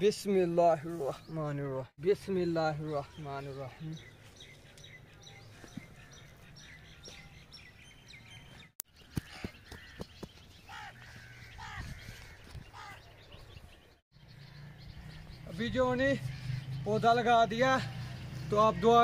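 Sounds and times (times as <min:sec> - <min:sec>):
faint outdoor background: 0:00.0 - 0:19.0
small birds chirping: 0:00.0 - 0:19.0.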